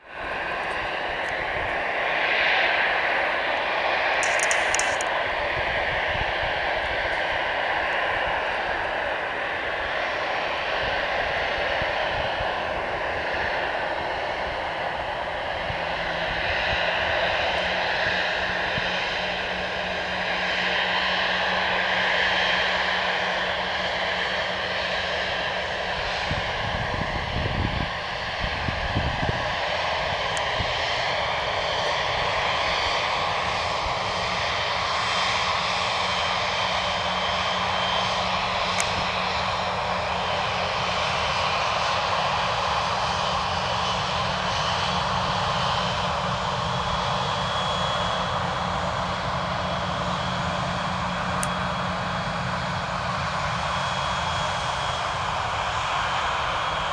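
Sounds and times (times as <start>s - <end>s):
jet engines whining: 0.1s - 56.9s.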